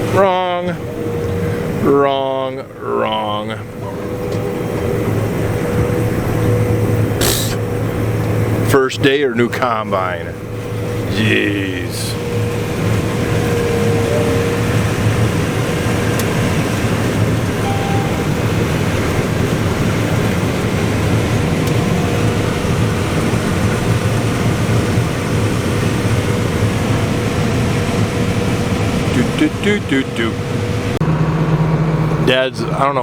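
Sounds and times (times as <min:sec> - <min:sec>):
vehicle engine drone from cab: 0:00.0 - 0:33.0.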